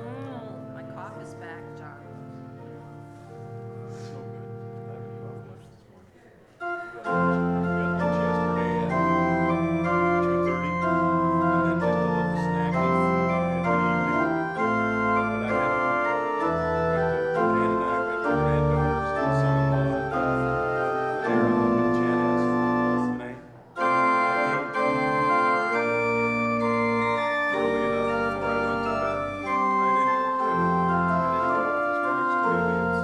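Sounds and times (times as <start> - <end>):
organ playing a hymn: 0.0 - 5.7, 6.6 - 33.0.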